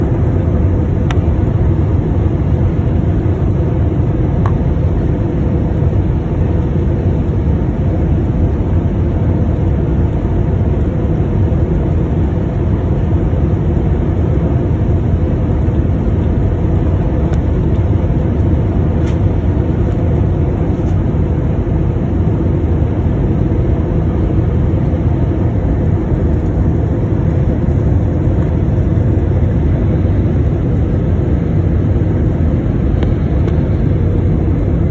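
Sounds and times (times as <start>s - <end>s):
jet engines and rushing air: 0.0s - 34.9s.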